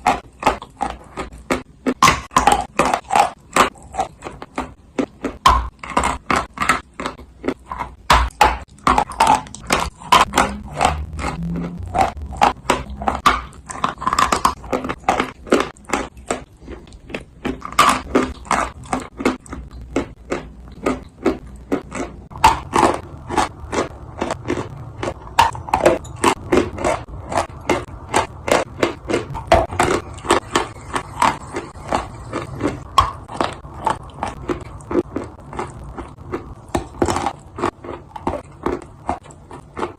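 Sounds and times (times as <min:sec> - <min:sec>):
clay being chewed: 0:00.0 - 0:39.9.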